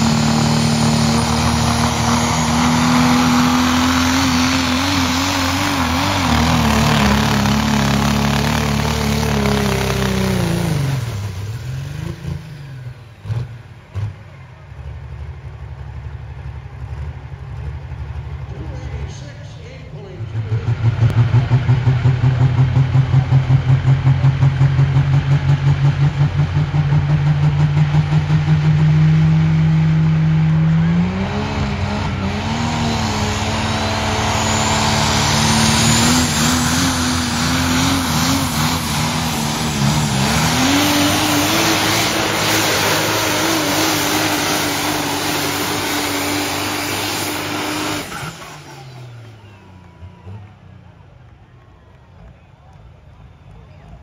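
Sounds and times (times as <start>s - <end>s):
diesel engine at full throttle: 0.0s - 54.0s.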